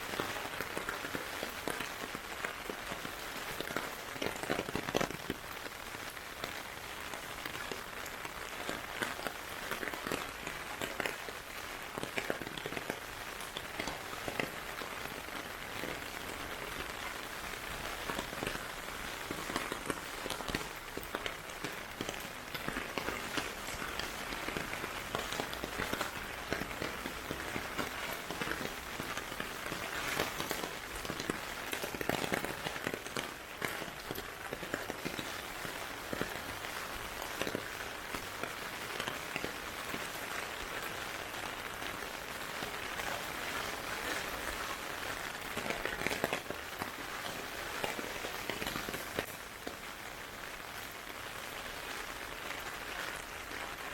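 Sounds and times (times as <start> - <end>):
heavy rain falling: 0.0 - 53.9
raindrops pattering on hard surfaces: 0.0 - 53.9.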